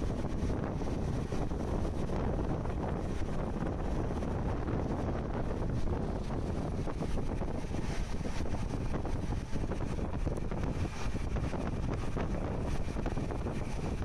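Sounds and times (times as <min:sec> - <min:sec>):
train rumbling: 0:00.0 - 0:14.0
wind buffeting microphone: 0:00.0 - 0:14.0.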